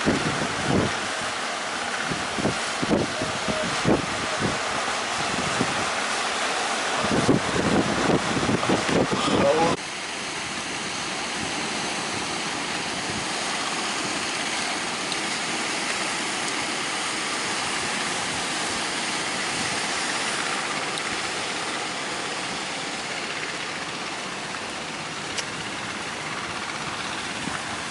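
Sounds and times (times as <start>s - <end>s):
strong wind blowing: 0.0s - 27.9s.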